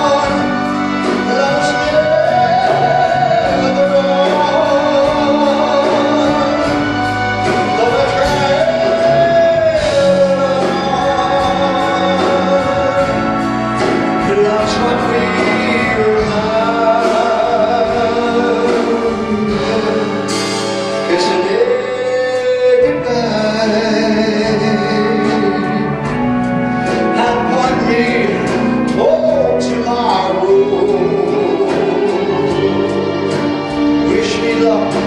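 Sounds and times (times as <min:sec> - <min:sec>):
big band playing: 0:00.0 - 0:35.0
man singing into microphone: 0:00.0 - 0:35.0.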